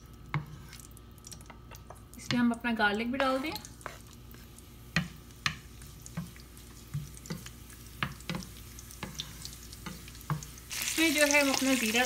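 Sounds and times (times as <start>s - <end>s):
faint frying sizzle: 0.0s - 12.0s.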